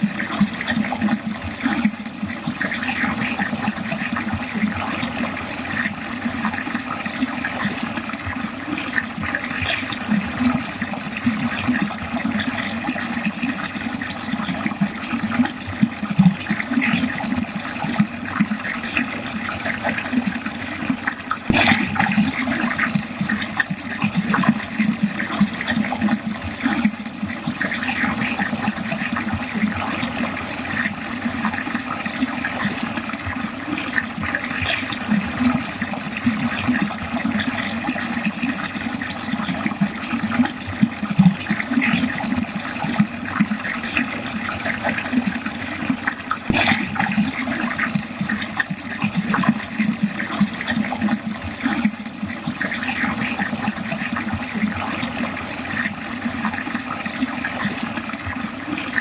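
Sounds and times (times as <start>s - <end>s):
water pouring down a drain: 0.0s - 59.0s.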